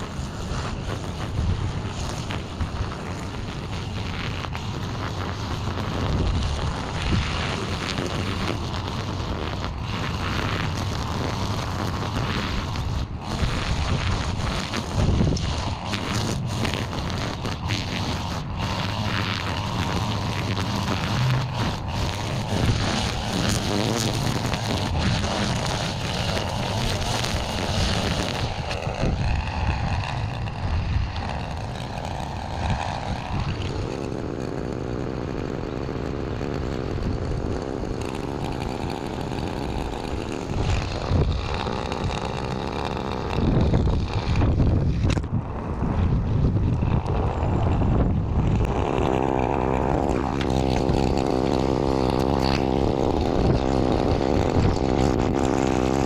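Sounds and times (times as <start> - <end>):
small gas engine running: 0.0 - 56.0.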